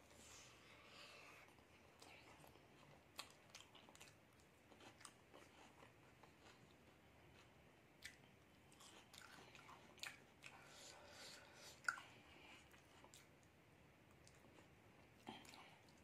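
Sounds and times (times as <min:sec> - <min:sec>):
faint close-up chewing: 0:00.0 - 0:16.0.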